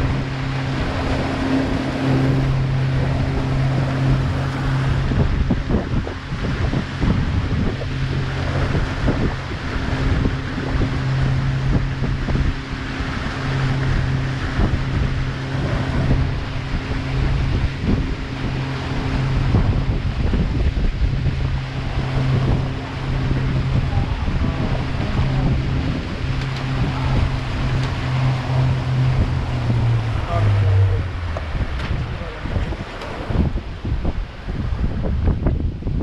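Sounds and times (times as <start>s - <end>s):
boat engine humming: 0.0s - 36.0s
water rushing past hull: 0.0s - 36.0s
wind buffeting microphone: 0.0s - 36.0s.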